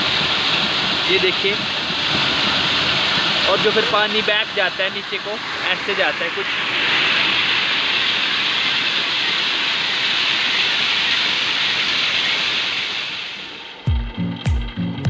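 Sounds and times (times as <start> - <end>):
water rushing down channel: 0.0 - 13.9.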